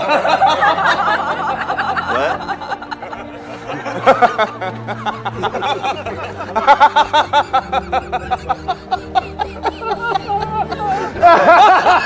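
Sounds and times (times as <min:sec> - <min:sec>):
men laughing: 0:00.0 - 0:12.0
soft background music: 0:00.0 - 0:12.0.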